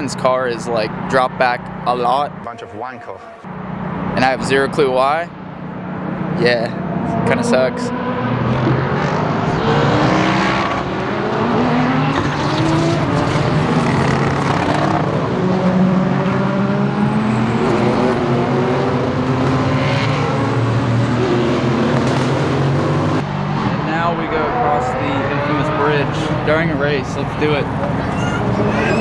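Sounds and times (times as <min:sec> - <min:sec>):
race car engines accelerating: 0:00.0 - 0:29.0.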